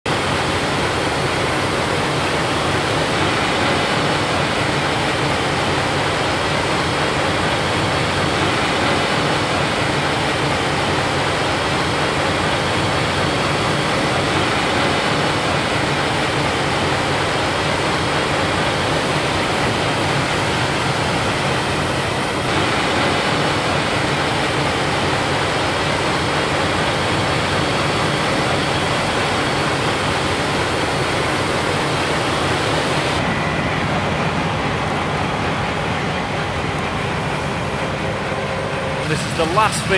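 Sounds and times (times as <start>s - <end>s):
combine harvester running: 0.1s - 39.9s
faint high whine: 0.1s - 39.9s.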